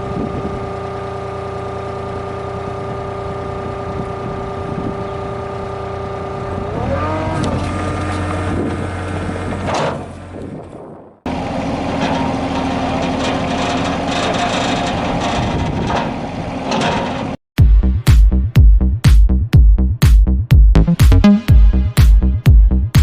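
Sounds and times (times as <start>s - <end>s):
excavator diesel engine running: 0.0s - 18.5s.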